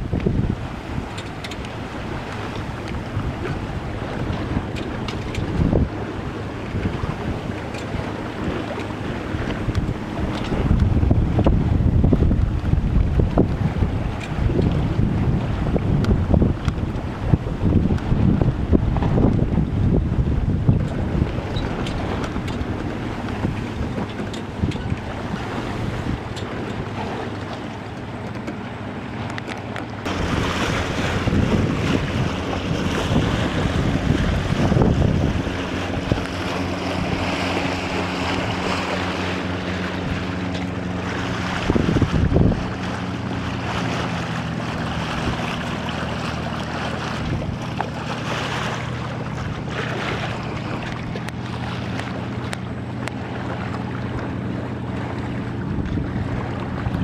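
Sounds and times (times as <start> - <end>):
water rushing past hull: 0.0 - 57.0
wind buffeting microphone: 0.0 - 57.0.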